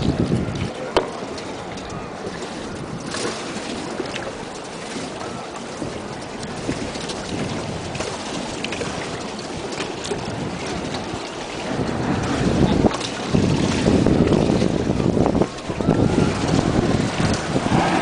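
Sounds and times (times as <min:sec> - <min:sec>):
small splashes: 0:00.0 - 0:18.0
water lapping against hull: 0:00.0 - 0:18.0
wind on microphone: 0:00.0 - 0:18.0.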